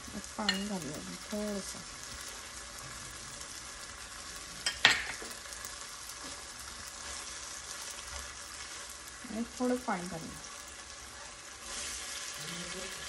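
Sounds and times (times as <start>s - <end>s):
loud sizzle burst: 0.0s - 13.0s
vegetables sizzling in a wok: 0.0s - 13.0s.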